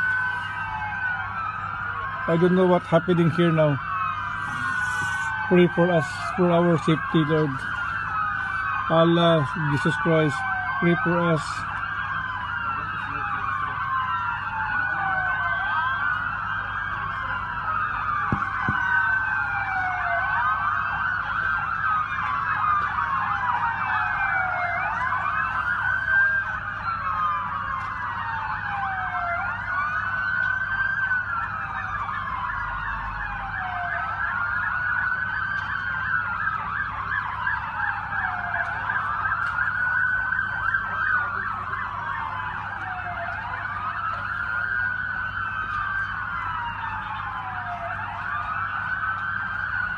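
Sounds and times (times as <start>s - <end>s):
sirens wailing: 0.0s - 49.9s.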